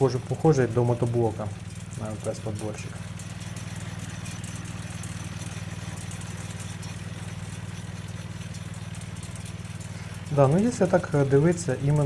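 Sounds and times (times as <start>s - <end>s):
small engine running baler: 0.0s - 12.0s.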